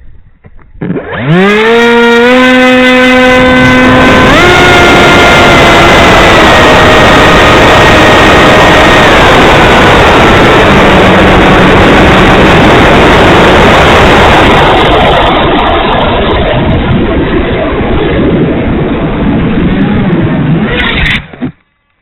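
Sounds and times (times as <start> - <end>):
wind rush on microphone: 0.0 - 21.6
electric motor and propeller whine: 0.0 - 21.7.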